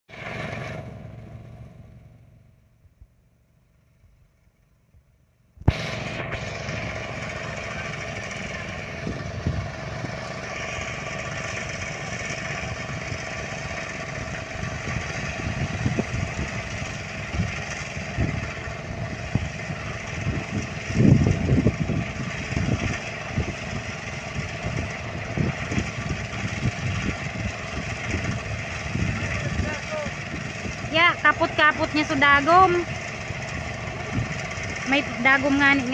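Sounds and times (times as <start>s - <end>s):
rice thresher engine running: 0.1s - 35.9s.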